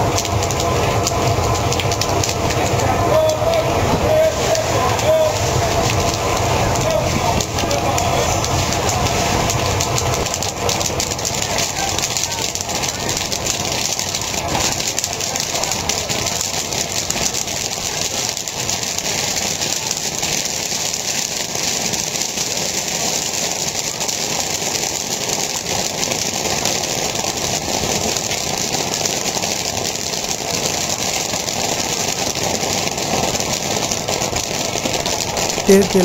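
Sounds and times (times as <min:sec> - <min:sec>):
corn kernels popping in oil: 0:00.0 - 0:03.6, 0:04.5 - 0:36.0
steady background noise: 0:00.0 - 0:36.0.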